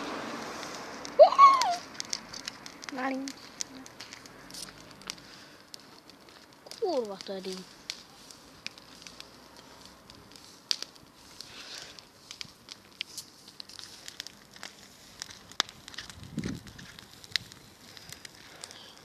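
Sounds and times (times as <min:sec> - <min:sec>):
burning grass crackling: 0:00.0 - 0:19.0
sharp pops: 0:00.5 - 0:19.0.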